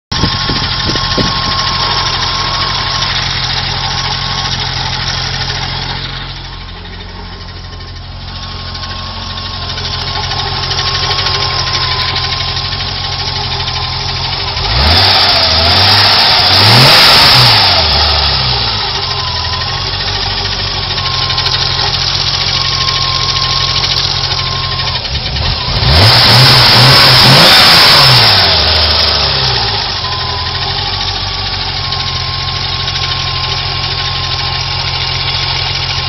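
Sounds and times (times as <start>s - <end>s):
car engine revving: 0.1s - 35.4s
car engine idling with ticking: 0.1s - 36.0s.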